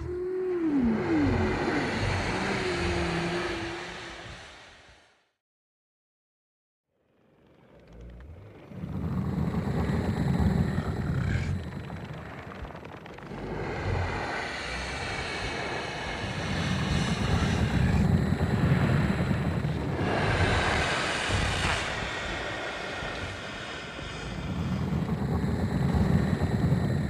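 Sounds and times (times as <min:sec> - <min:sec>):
low rumble: 0:00.0 - 0:05.1, 0:07.7 - 0:27.0.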